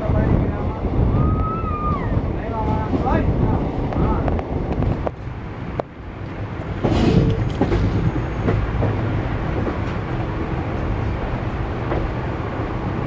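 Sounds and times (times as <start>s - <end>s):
train coaches rumbling: 0.0s - 13.0s.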